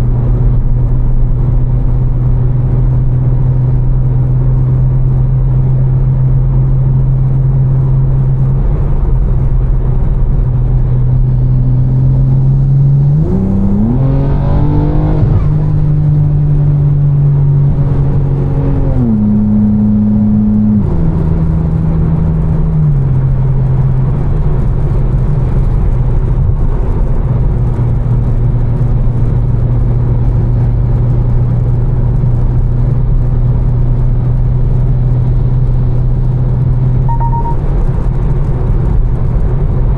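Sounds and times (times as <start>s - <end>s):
car engine cruising and revving: 0.0s - 39.9s.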